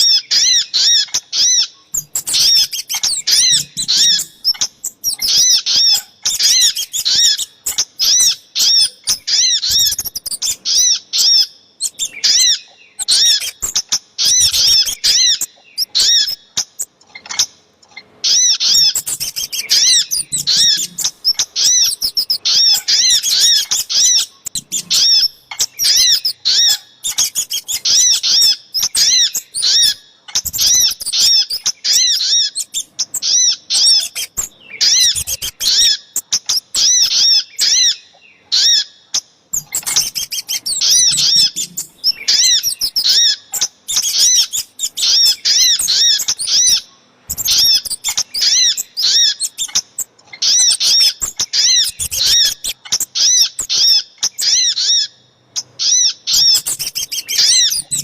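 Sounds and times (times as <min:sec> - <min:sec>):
birds chirping rapidly: 0:00.0 - 0:58.0.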